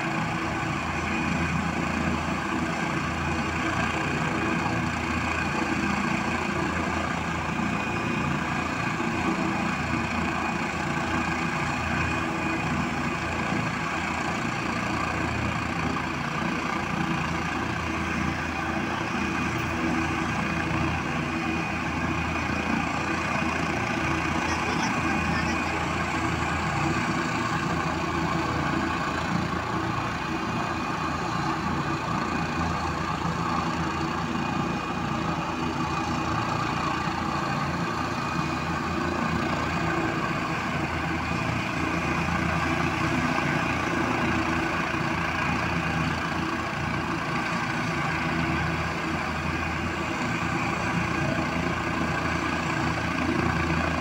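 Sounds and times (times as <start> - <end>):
helicopter engine drone: 0.0 - 54.0
high turbine whine: 0.0 - 54.0.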